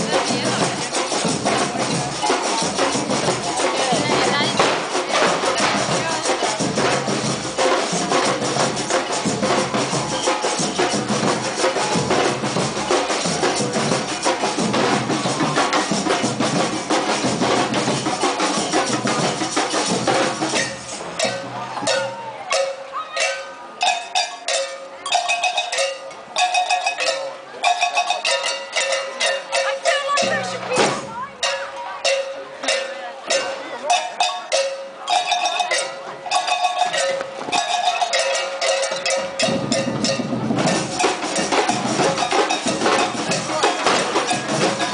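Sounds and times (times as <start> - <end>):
drum band playing: 0.0 - 44.9
ringing drum strikes: 0.0 - 44.9.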